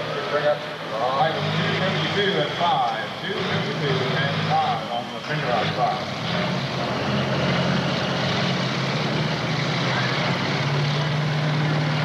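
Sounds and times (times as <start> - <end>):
diesel engine revving high: 0.0 - 12.0.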